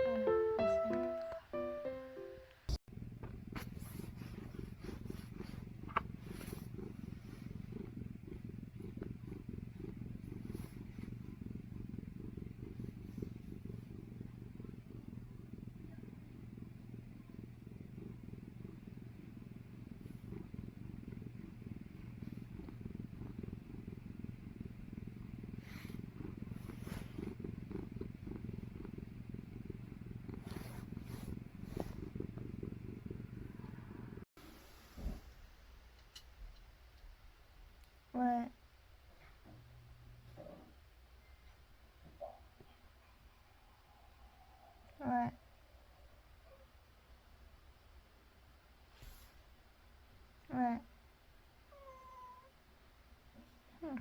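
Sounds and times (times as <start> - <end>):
cat purring: 0.0 - 2.0, 2.8 - 34.4, 38.1 - 50.9, 51.6 - 52.6, 53.2 - 54.0.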